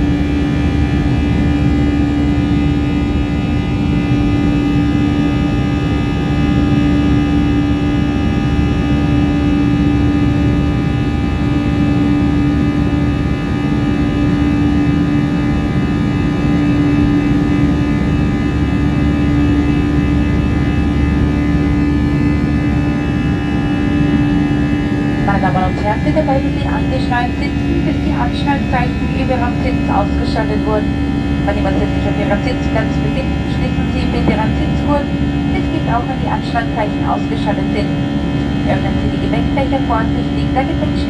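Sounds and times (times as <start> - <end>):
airplane engine drone: 0.0 - 41.0.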